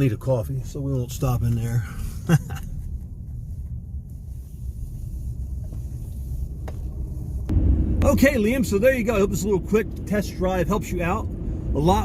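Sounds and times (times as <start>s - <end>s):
road and drivetrain rumble in cab: 0.0s - 12.0s.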